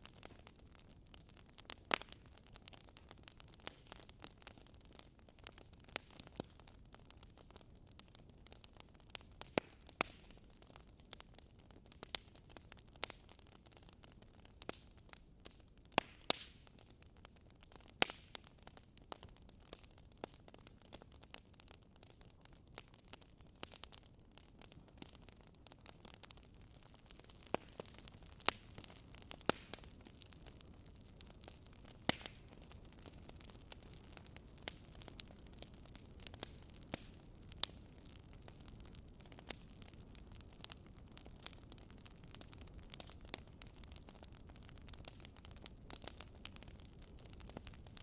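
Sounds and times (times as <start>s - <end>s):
firewood crackling and popping: 0.0s - 48.0s
soft steady hiss: 0.0s - 48.0s.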